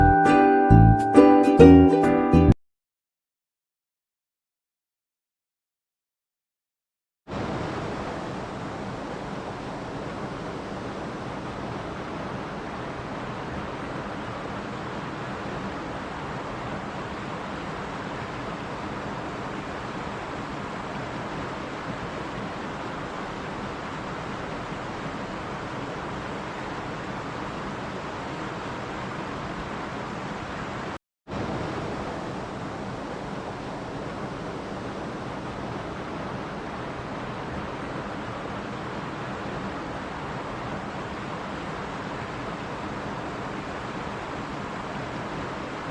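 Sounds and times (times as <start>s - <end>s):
steady rushing noise: 7.3s - 45.9s.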